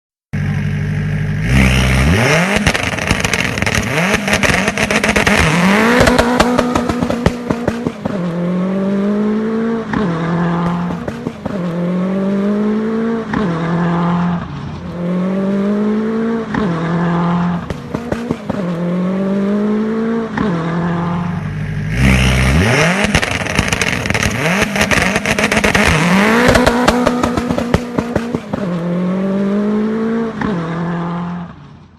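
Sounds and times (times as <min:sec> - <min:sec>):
rally car engine revving: 0:00.4 - 0:31.9.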